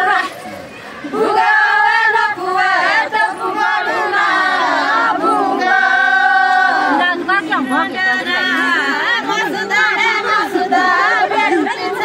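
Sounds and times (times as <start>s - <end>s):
women singing in unison: 0.0s - 0.4s, 1.1s - 12.0s.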